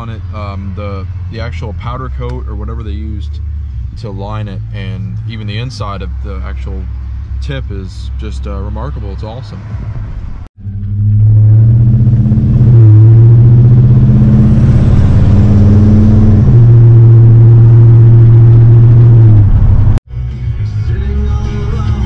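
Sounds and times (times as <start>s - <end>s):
truck engine running loud and deep: 0.0s - 20.0s.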